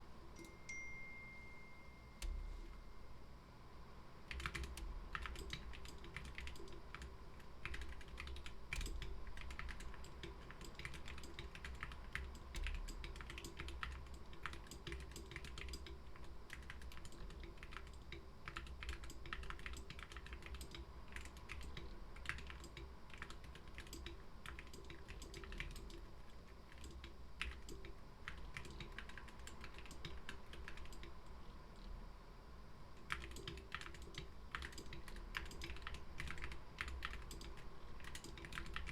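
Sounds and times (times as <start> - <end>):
typing on mechanical keyboard: 4.3 - 31.2, 33.0 - 38.9.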